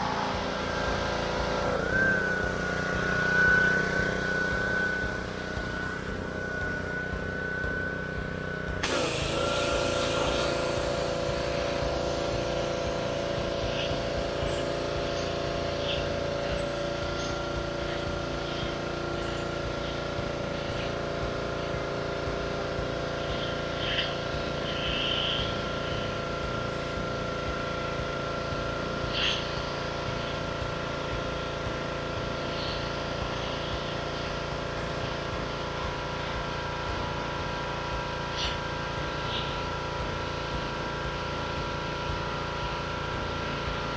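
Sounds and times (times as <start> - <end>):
spray hissing: 0.0 - 35.3
pressure washer running: 0.0 - 43.9.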